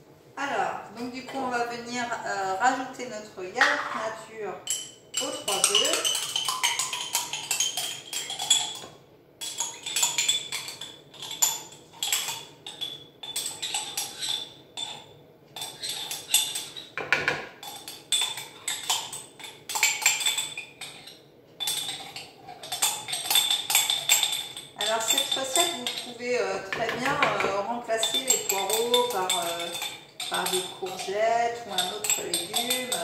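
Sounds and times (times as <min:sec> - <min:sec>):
utensil clinking against a bowl: 0:04.6 - 0:33.0.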